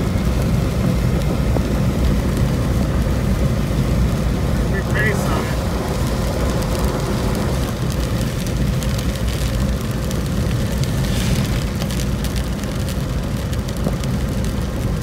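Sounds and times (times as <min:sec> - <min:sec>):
car road and engine noise: 0:00.0 - 0:15.0
raindrops ticking on windshield: 0:00.0 - 0:15.0.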